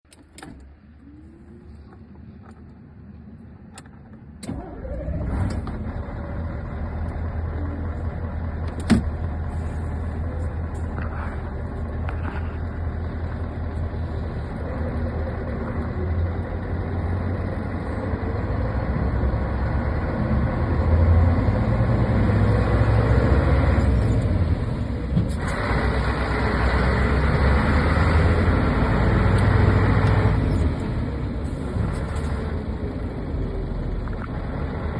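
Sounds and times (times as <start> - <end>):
diesel engine starting and idling: 0.1 - 34.9.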